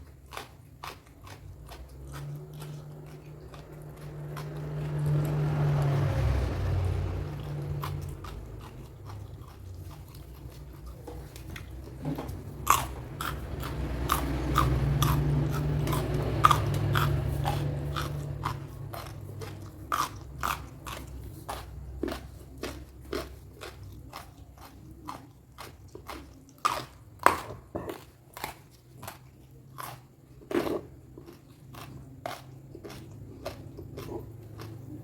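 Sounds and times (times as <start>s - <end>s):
low steady hum: 0.0s - 35.0s
person chewing crunchy food: 0.0s - 35.0s.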